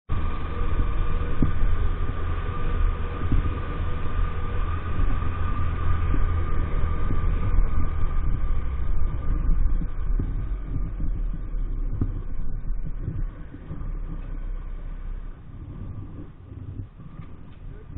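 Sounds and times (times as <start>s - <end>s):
low wind rumble on microphone: 0.1s - 17.9s
moped engine whining: 0.1s - 17.9s.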